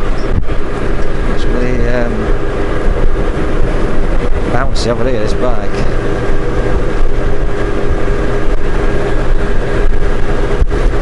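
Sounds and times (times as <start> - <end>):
motorcycle engine rumble: 0.0 - 11.0
road and wind noise: 0.0 - 11.0.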